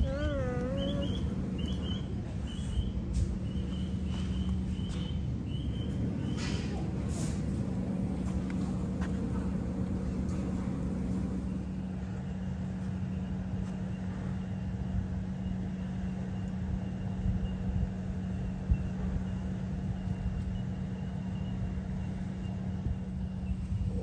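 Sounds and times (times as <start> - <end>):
low motor hum and rumble: 0.0 - 24.0.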